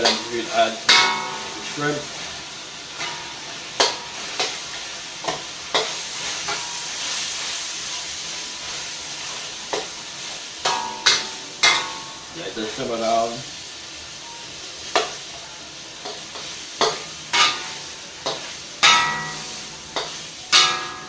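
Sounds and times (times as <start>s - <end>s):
food sizzling in a wok: 0.0s - 21.0s.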